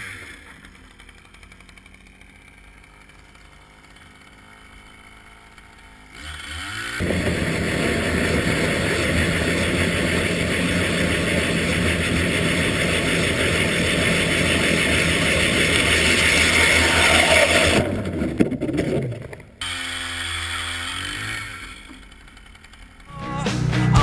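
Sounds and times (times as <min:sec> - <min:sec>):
ice auger engine revving: 0:00.0 - 0:23.2.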